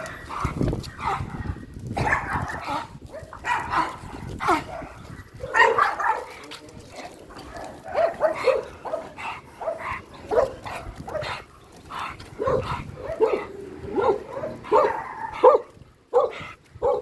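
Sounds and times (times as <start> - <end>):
dog barking: 1.0 - 6.4, 7.4 - 11.4, 12.4 - 17.0.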